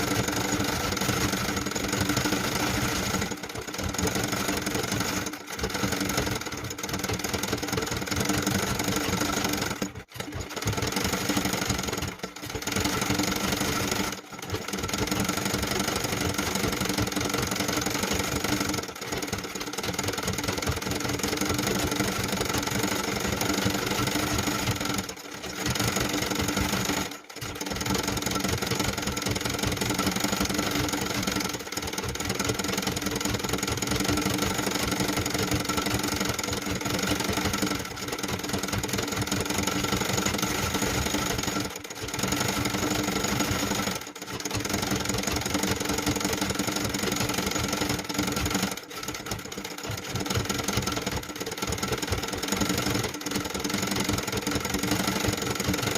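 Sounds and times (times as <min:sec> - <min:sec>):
sewing machine running: 0:00.0 - 0:55.9.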